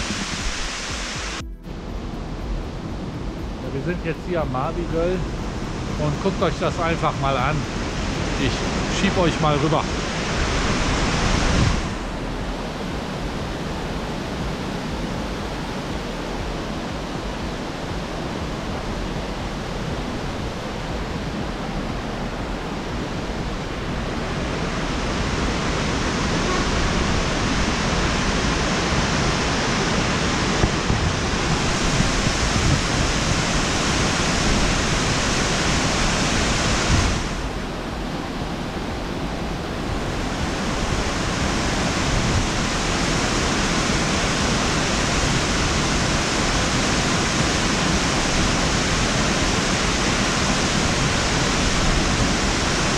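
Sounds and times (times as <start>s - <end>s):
waterfall rushing into pool: 0.0s - 1.5s, 2.6s - 52.9s.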